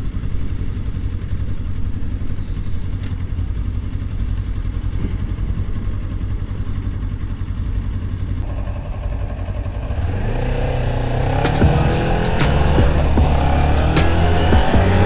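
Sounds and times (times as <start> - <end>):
motorcycle engine running: 0.0 - 15.0
steady low rush: 0.0 - 15.0.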